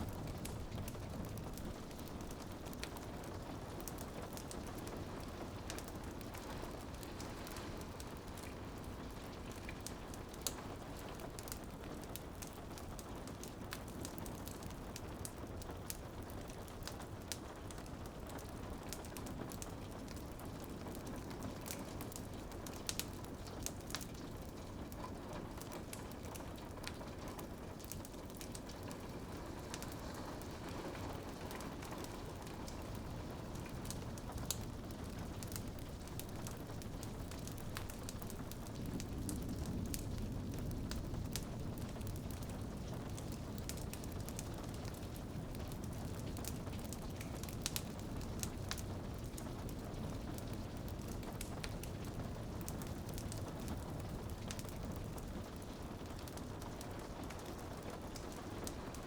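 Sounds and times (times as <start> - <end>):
rain on a window: 0.0 - 59.0
wood fire crackling and popping: 0.0 - 59.0.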